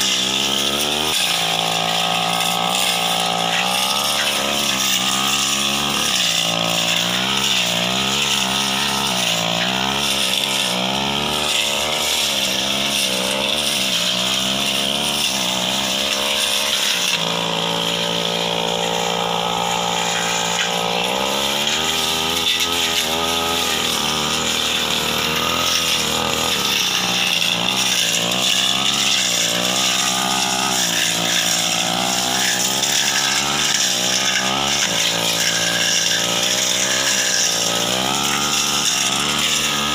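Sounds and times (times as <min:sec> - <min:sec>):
brush cutter engine at high revs: 0:00.0 - 0:39.9.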